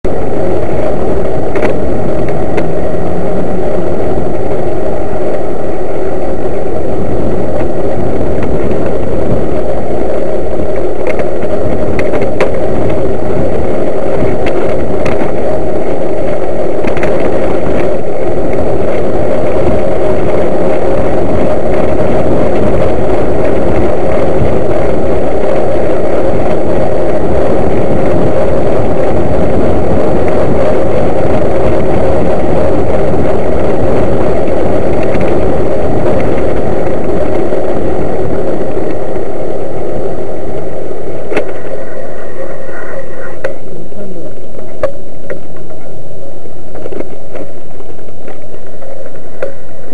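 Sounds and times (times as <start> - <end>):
wind rush on microphone: 0.0 - 49.9.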